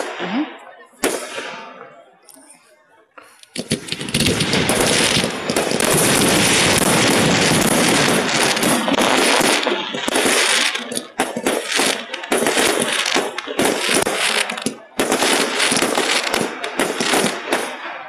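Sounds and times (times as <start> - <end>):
fireworks bursting and crackling: 0.0 - 2.5, 3.2 - 18.0.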